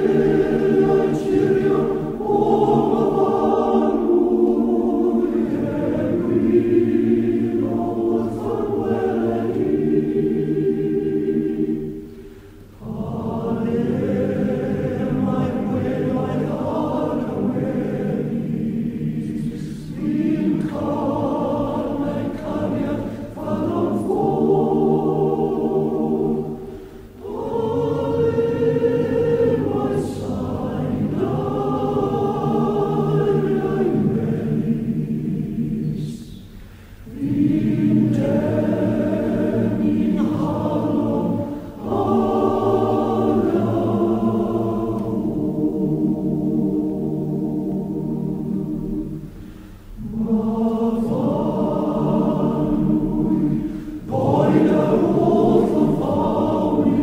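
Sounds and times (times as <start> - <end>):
choir singing sustained chords: 0.0 - 57.0.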